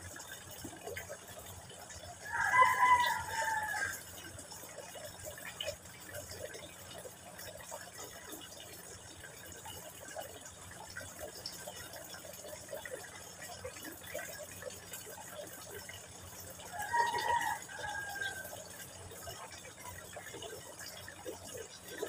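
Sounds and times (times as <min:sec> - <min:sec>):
water trickling into pond: 0:00.0 - 0:22.0.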